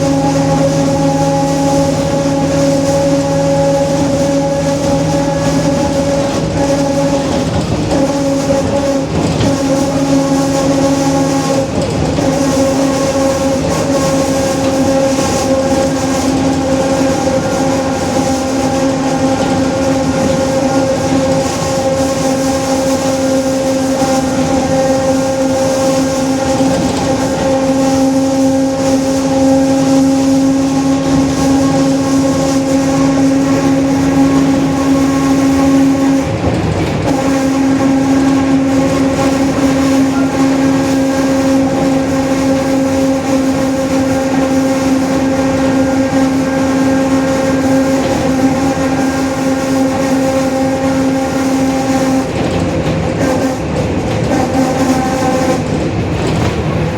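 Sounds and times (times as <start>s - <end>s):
bus differential howling: 0.0s - 56.9s
road and engine rumble: 0.0s - 56.9s.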